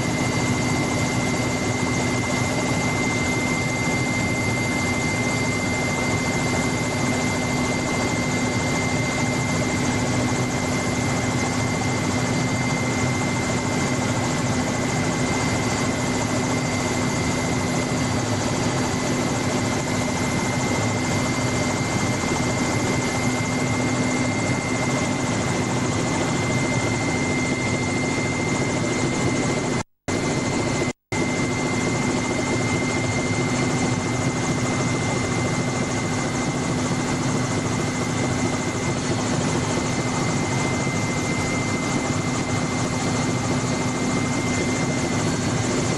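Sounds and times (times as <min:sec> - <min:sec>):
helicopter cabin noise: 0:00.0 - 0:45.9.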